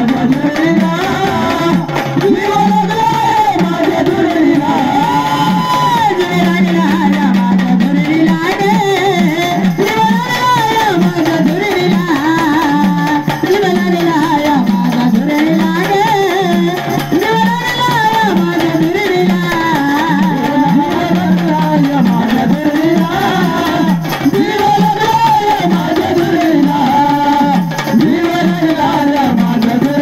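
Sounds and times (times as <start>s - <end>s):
drum rhythm: 0.0s - 30.0s
person singing: 0.0s - 30.0s.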